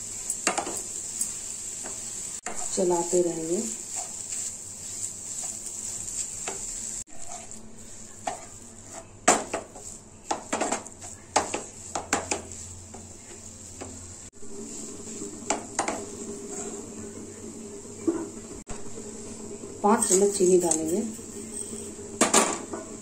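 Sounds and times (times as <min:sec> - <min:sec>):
steady high hiss: 0:00.0 - 0:22.3
spatula scraping a pan: 0:00.2 - 0:17.3, 0:19.2 - 0:23.0.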